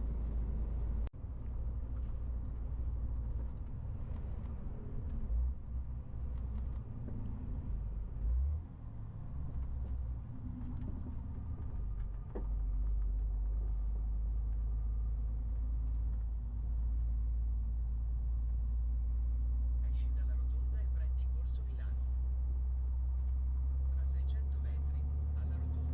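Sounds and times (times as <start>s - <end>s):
truck diesel engine rumbling: 0.0s - 25.9s.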